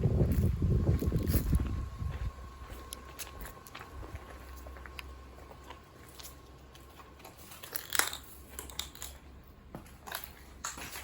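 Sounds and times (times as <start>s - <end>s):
small crunches and knocks: 0.2s - 11.0s.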